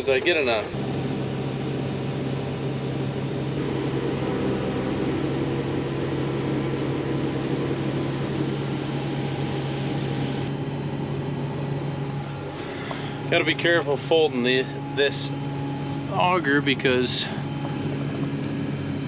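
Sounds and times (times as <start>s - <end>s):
tractor engine idling: 0.0s - 19.0s
grain auger humming: 0.8s - 19.0s.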